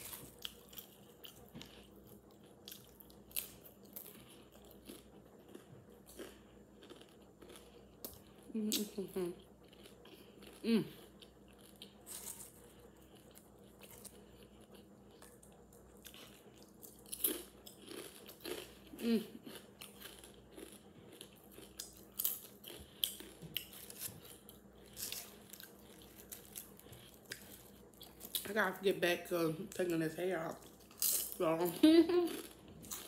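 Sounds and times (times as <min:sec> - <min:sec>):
chewing crunchy chips: 0:00.0 - 0:28.6, 0:29.7 - 0:33.0.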